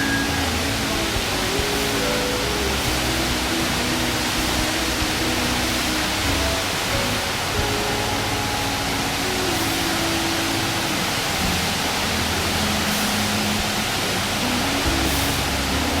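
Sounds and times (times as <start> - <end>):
loud steady hiss: 0.0 - 16.0
music with held notes: 0.0 - 16.0.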